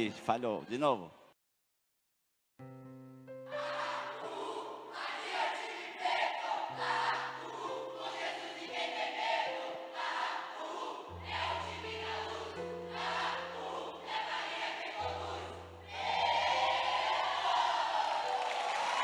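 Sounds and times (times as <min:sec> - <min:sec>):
voices chanting in unison: 0:03.5 - 0:19.0.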